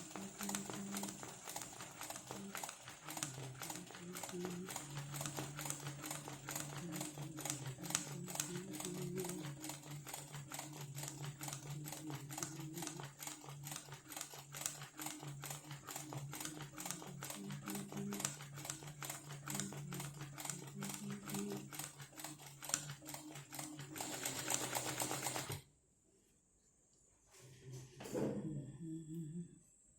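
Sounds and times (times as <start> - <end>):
sewing machine stitching: 0.0 - 25.6
sewing machine motor hum: 0.0 - 25.7.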